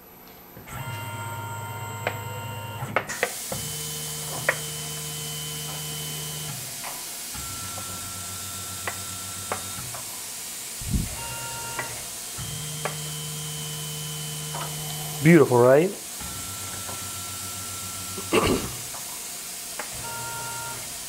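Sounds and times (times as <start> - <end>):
spindle motor whine: 0.6 - 21.0.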